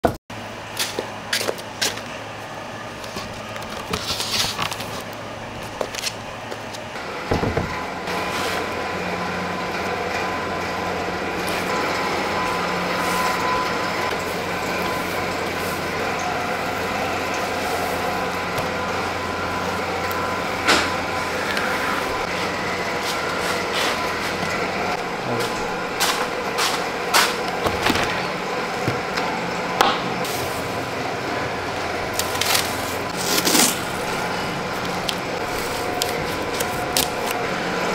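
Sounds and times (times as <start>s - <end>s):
machine hum: 0.0s - 37.9s.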